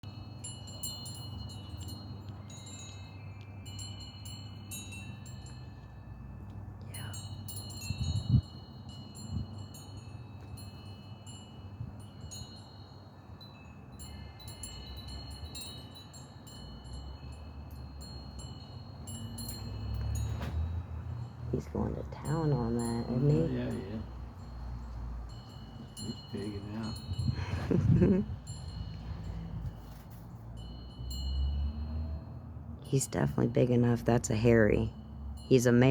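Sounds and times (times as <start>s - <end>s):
wind chimes ringing: 0.0s - 35.9s.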